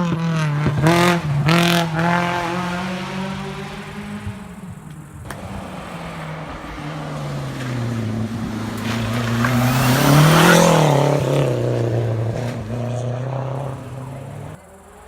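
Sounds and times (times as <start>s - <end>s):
racing car driving past: 0.0s - 15.0s.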